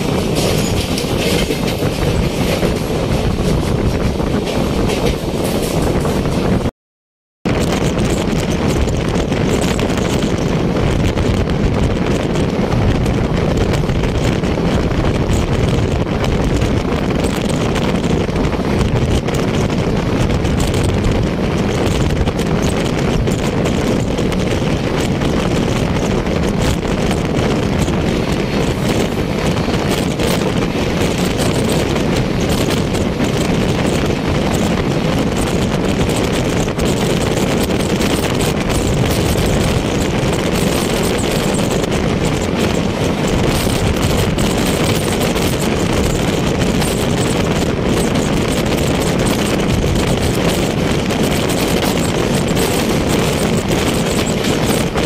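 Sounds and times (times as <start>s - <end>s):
train wheels on rails: 0.0s - 6.7s, 7.5s - 55.0s
wind buffeting microphone: 0.0s - 6.7s, 7.4s - 55.0s.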